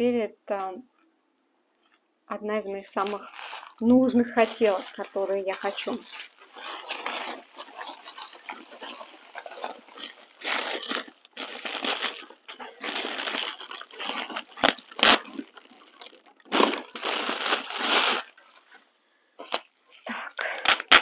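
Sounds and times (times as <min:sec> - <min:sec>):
packaging crinkling and rustling: 0:03.0 - 0:21.0.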